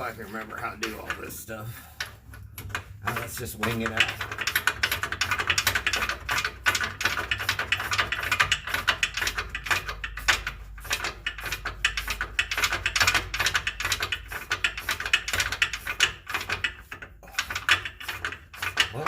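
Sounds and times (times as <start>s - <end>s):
ratchet wrench clicking: 2.0s - 19.0s.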